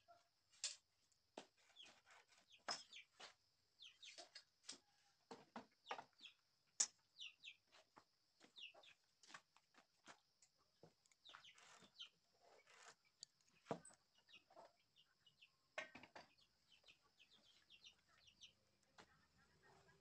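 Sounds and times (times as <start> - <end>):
birds chirping: 1.5 - 4.5, 5.5 - 20.0.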